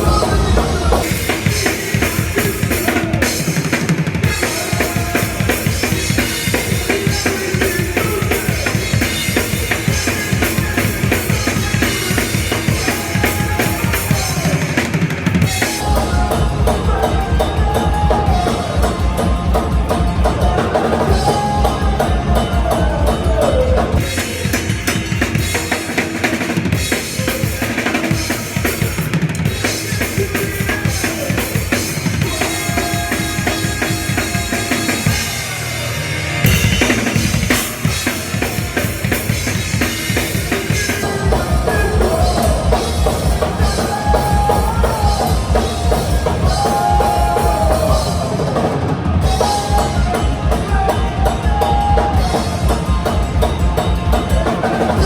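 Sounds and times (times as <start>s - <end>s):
drum kit beat: 0.0s - 55.0s
punk rock band playing live: 0.0s - 55.0s.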